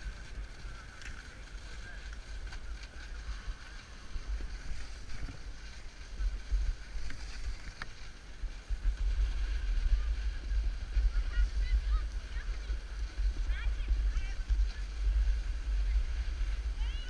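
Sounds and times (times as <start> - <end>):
snowboard sliding over snow: 0.0 - 17.0
wind buffeting camera: 0.0 - 17.0.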